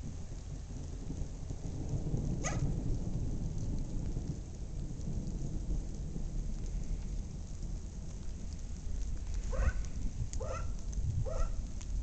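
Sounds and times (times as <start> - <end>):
low rumble of thunder: 0.0 - 12.0
steady rain: 0.0 - 12.0.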